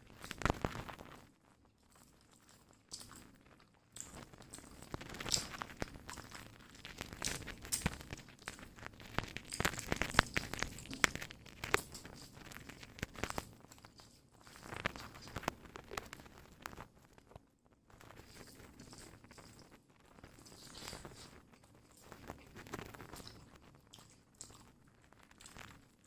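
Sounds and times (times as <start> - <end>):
chewing and crunching: 0.0 - 26.0
food tearing: 0.1 - 1.3, 1.9 - 17.3, 18.0 - 26.0.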